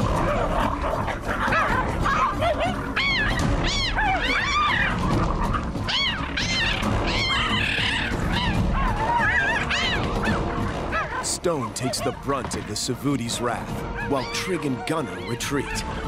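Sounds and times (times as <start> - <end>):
cheetahs yelping and squealing: 0.0 - 12.4, 13.7 - 16.0
background music: 0.0 - 16.0.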